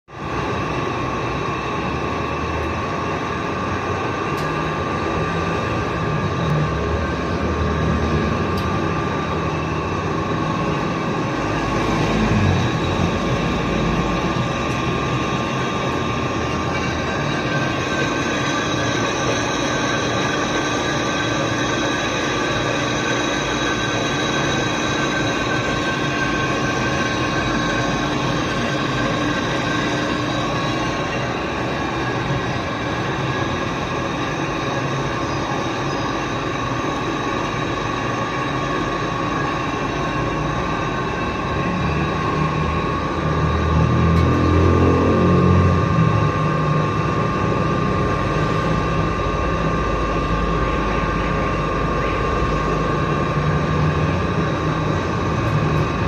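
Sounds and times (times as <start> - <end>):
high cutting whine: 0.1 - 56.0
metal lathe boring a pipe: 0.2 - 56.0.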